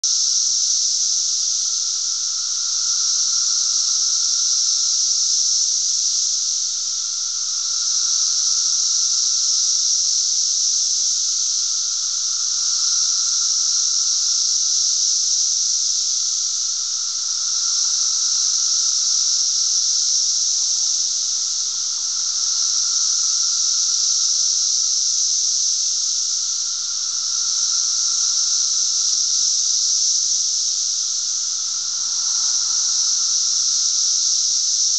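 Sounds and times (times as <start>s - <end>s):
cicadas droning: 0.0s - 34.9s.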